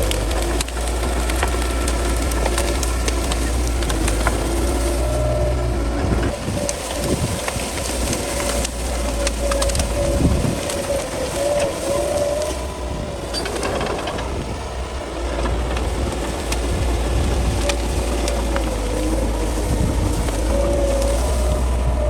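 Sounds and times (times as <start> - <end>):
brush cracking and clicking: 0.0 - 14.4, 15.2 - 22.0
bulldozer diesel engine rumbling: 0.0 - 22.0.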